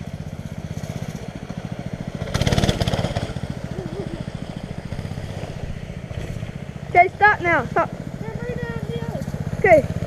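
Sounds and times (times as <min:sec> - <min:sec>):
mini bike engine running: 0:00.0 - 0:10.0.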